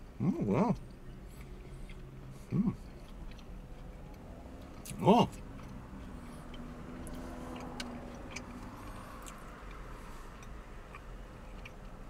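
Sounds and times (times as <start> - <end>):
person chewing crispy food: 0.7 - 12.0.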